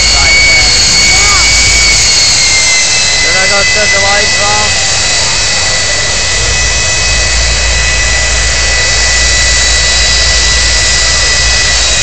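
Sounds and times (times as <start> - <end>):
jet engine whine and roar: 0.0 - 12.0.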